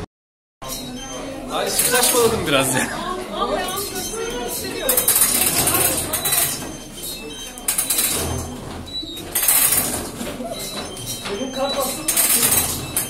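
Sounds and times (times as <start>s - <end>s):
background chatter: 0.6s - 13.0s
metal turnstiles clicking and rattling: 0.7s - 2.8s, 3.4s - 13.0s.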